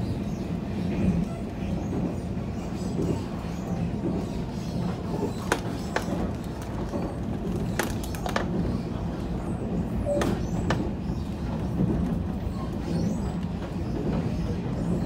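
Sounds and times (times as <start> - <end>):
train rumbling at speed: 0.0 - 15.0
sharp clicks of train: 0.2 - 15.0.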